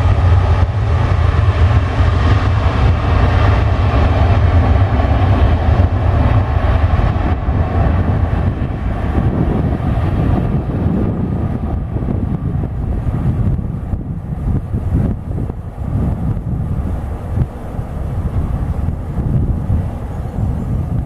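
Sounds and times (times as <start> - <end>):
jet engines low rumble: 0.0 - 21.0.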